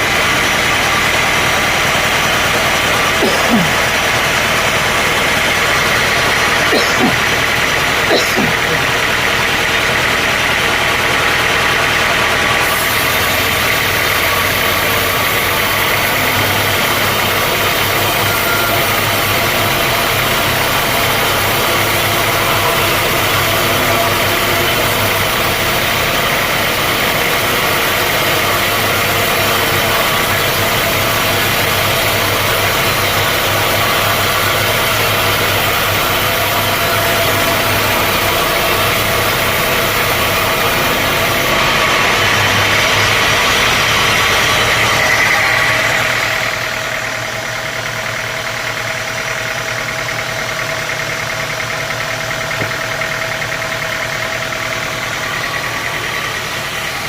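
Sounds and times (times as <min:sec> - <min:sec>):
harsh high machine noise: 0:00.0 - 0:57.0
heavy sawmill machinery running: 0:00.0 - 0:57.0.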